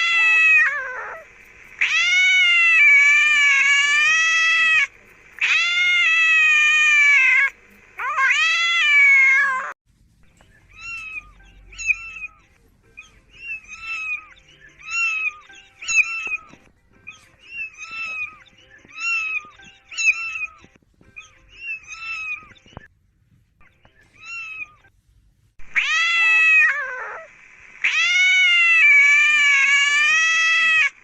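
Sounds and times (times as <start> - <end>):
cat meowing: 0.0 - 1.2, 1.8 - 9.8, 10.7 - 12.4, 13.0 - 20.6, 21.2 - 22.6, 24.2 - 24.8, 25.6 - 31.0
cat yowling: 0.0 - 9.8, 10.7 - 12.4, 13.0 - 22.6, 25.7 - 31.0.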